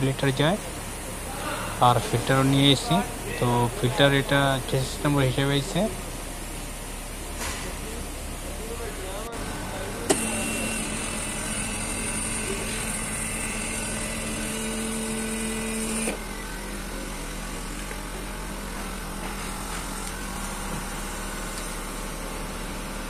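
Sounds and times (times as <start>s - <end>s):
hydraulic pump motor running: 0.0s - 23.0s.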